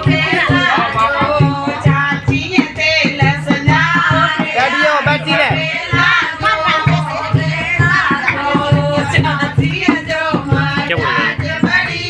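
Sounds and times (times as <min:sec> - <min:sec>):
singing over drum beat: 0:00.0 - 0:12.0.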